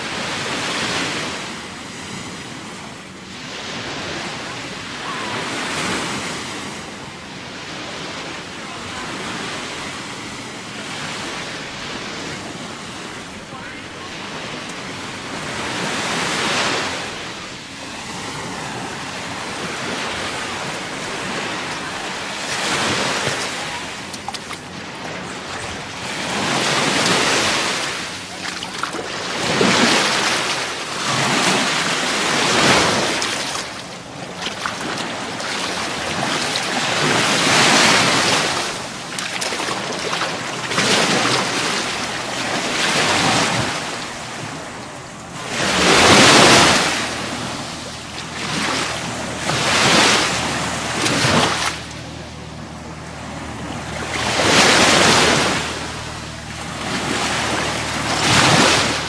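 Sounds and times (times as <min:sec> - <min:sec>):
surf breaking on beach: 0:00.0 - 0:59.0.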